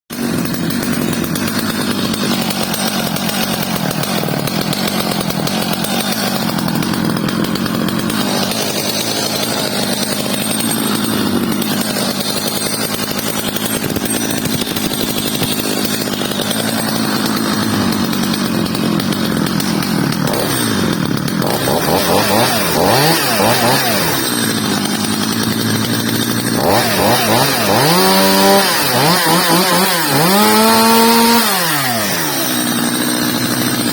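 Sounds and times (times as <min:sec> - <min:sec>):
chainsaw idling and revving: 0:00.1 - 0:33.9.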